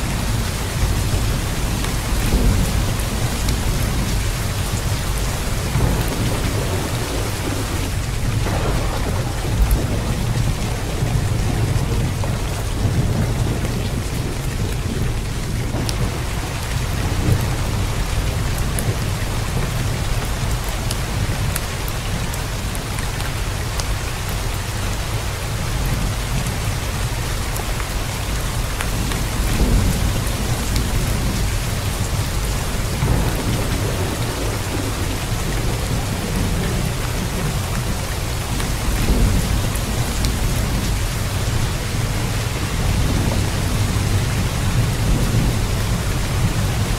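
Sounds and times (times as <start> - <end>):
heavy rain: 0.0 - 46.9
rain drops ticking: 0.0 - 46.9.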